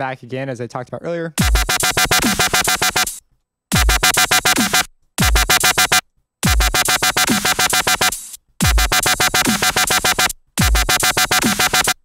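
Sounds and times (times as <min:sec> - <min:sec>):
stuttering dubstep synth bass: 0:01.4 - 0:03.2, 0:03.8 - 0:12.0.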